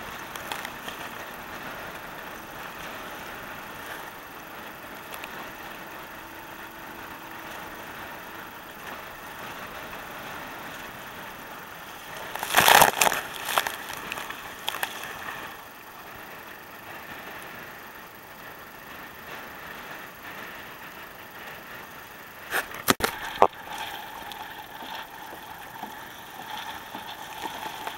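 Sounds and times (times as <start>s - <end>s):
choppy water against kayak: 0.0s - 27.9s.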